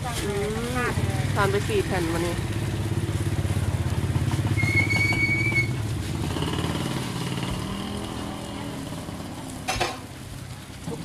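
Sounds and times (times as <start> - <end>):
small motorcycle engine passing: 0.1 - 11.0.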